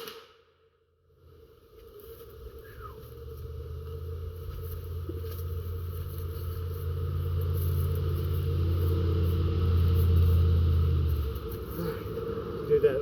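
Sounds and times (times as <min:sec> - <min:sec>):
vehicle engine rumble: 0:01.1 - 0:13.0.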